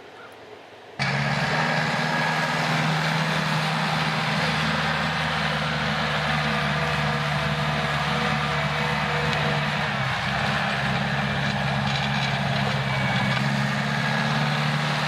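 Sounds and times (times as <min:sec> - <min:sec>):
tractor engine running: 0:01.0 - 0:15.0.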